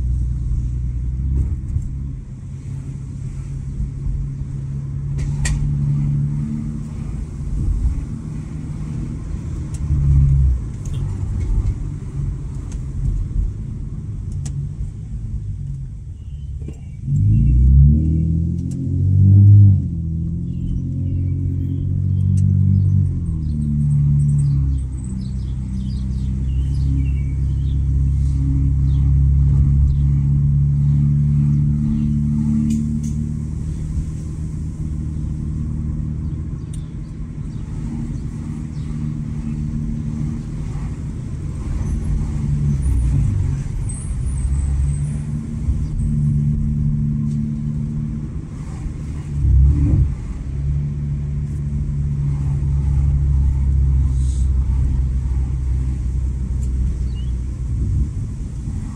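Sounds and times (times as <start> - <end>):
car exhaust engine note: 0.0 - 58.9.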